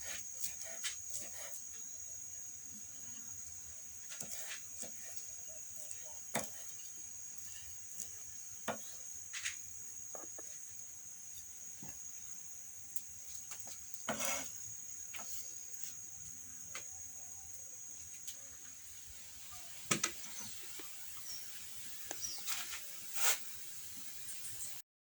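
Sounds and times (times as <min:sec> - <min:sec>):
crickets chirring: 0:00.0 - 0:24.8.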